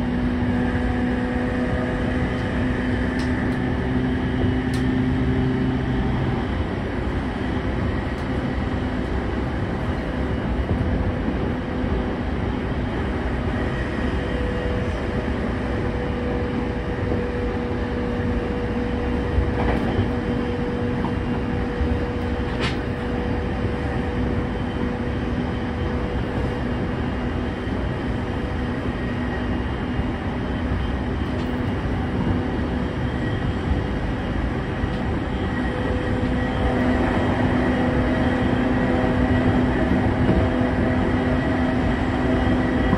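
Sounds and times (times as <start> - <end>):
constant hum: 0.0 - 42.9
train wheels rumbling: 0.0 - 42.9.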